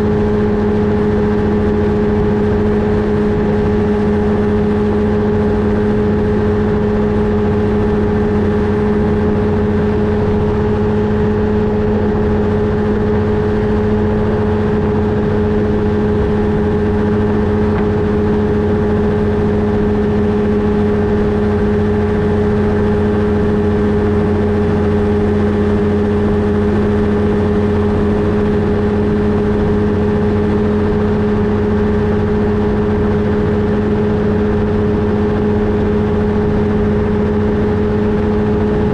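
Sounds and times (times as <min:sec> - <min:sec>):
ultralight engine droning: 0:00.0 - 0:38.9.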